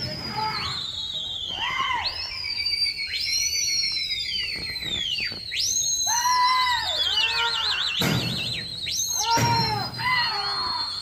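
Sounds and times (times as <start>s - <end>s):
people whistling: 0.0s - 11.0s.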